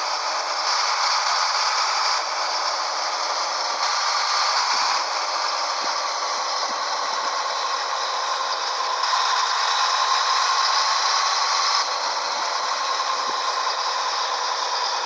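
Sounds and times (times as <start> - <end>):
truck rattling: 0.0 - 15.0.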